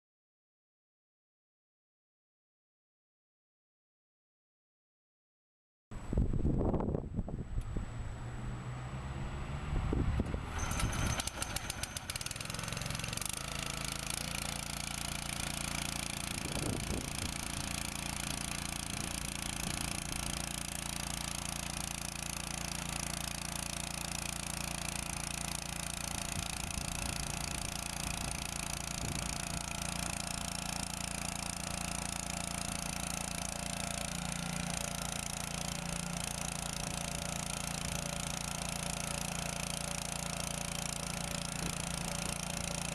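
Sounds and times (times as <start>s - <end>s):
petrol engine starting and running: 7.4s - 42.9s.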